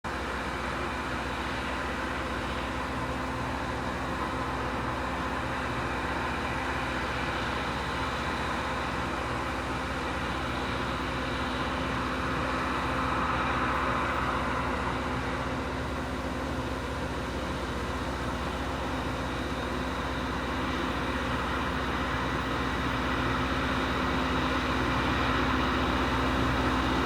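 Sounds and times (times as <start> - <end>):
rail grinder engines running: 0.1 - 27.0.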